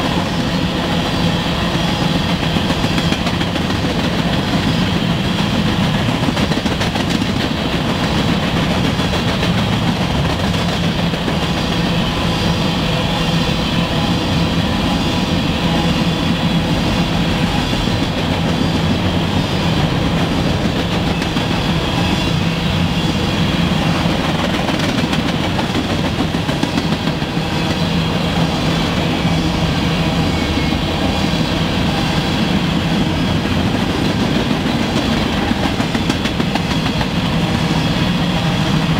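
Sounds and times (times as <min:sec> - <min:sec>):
freight train rolling past: 0:00.0 - 0:38.9
steel wheels rattling on rails: 0:00.0 - 0:38.9.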